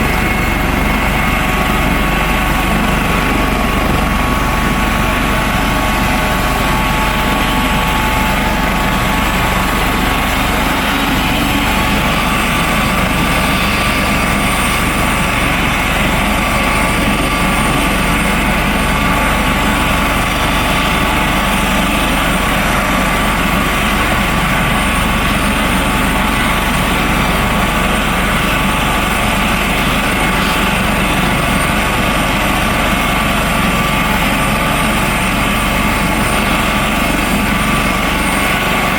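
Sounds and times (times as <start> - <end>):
helicopter turbine and rotor: 0.0 - 38.9
high whine: 0.0 - 38.9.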